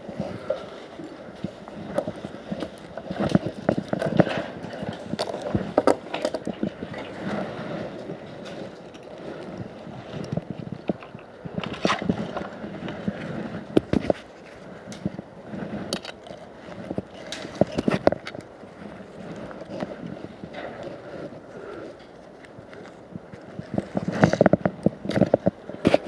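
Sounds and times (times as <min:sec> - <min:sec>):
rustling haze: 0:00.0 - 0:26.0
knocks clicks and scrapes: 0:00.1 - 0:26.0.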